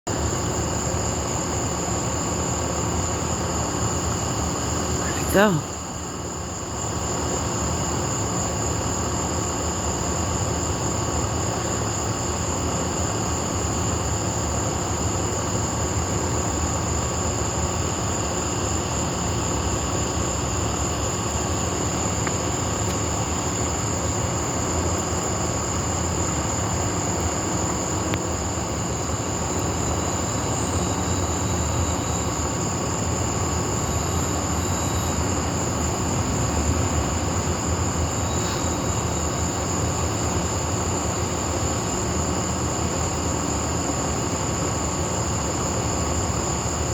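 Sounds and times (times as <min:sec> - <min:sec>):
high-pitched insect chorus: 0:00.1 - 0:46.9.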